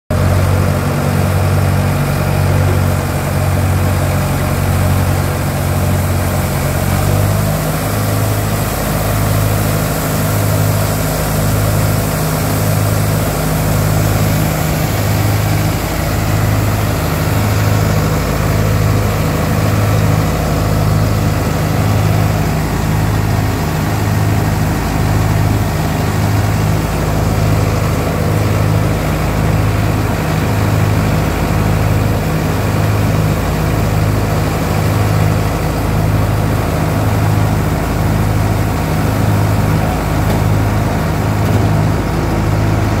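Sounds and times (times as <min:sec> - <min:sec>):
tractor diesel engine running thresher: 0:00.1 - 0:43.0.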